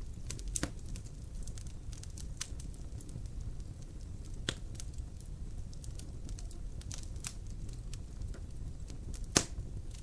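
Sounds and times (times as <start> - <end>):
low rumble of flames: 0.0 - 10.0
wood fire crackling: 0.0 - 10.0.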